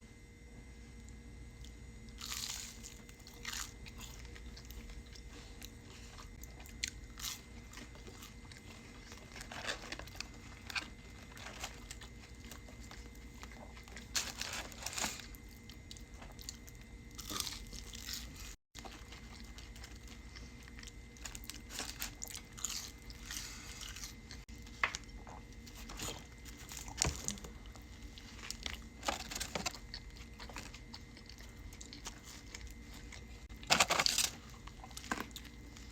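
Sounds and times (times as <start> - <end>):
crunchy food chewing: 0.9 - 35.9.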